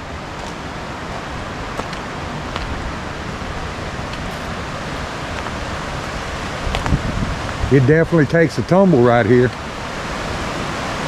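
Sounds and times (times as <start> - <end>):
water cascading over rocks: 0.0 - 11.0.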